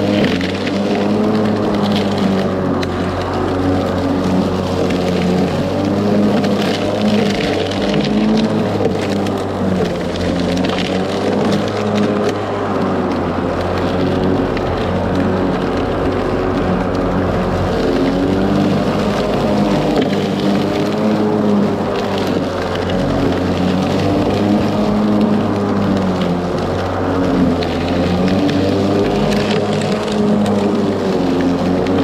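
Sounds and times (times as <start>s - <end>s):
electric lawn mower running: 0.0s - 32.0s.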